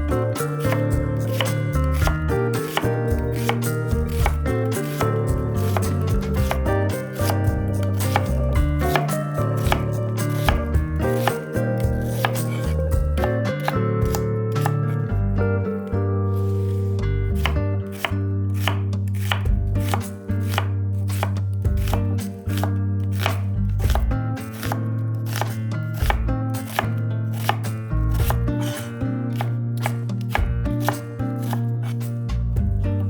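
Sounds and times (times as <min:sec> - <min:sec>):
knife chopping on cutting board: 0:00.0 - 0:15.0, 0:16.4 - 0:32.1
background music with bass: 0:00.0 - 0:33.0.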